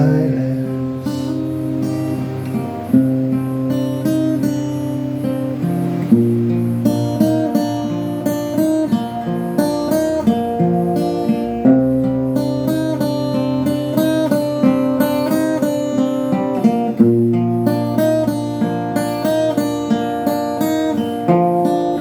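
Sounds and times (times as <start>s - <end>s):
acoustic guitar picking: 0.0s - 22.0s.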